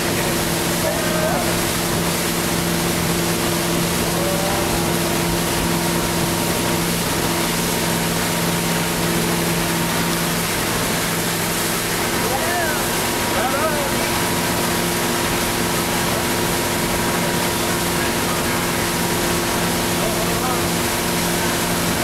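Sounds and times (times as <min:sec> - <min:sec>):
boat engine humming: 0:00.0 - 0:22.0
churning water: 0:00.0 - 0:22.0.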